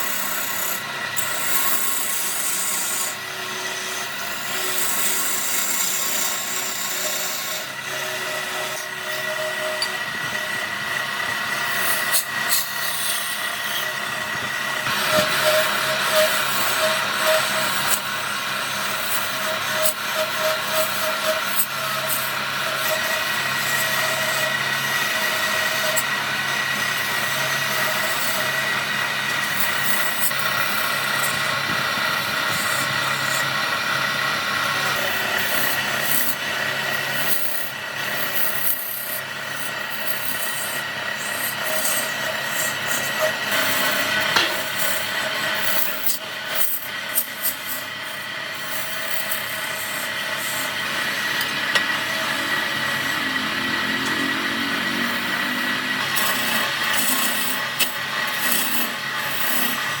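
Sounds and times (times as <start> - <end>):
power tool whining on wood: 0.0 - 60.0.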